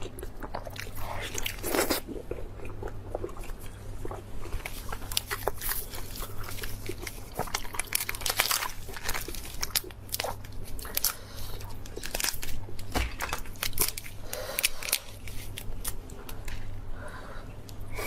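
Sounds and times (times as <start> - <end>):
person chewing crunchy food: 0.0 - 16.8.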